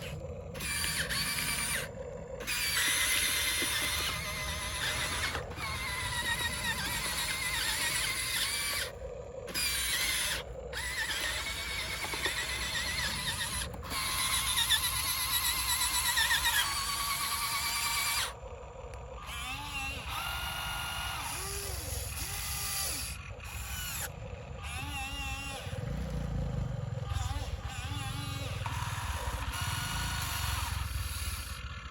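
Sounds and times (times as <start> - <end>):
electric motor and gearbox whining: 0.0 - 31.9.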